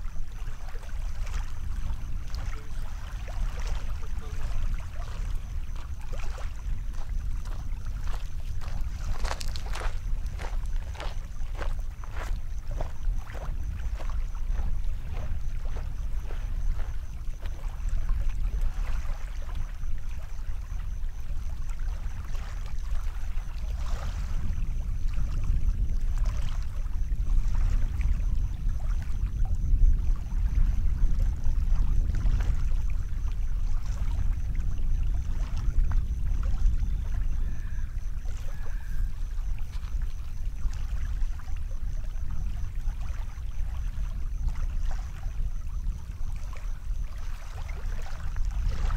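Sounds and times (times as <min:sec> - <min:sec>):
small waves lapping: 0:00.0 - 0:48.9
wind buffeting microphone: 0:00.0 - 0:48.9.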